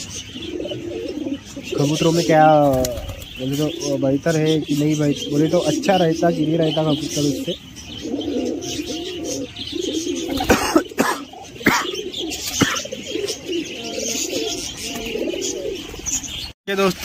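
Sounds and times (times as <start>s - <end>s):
pigeons cooing: 0.0s - 16.6s.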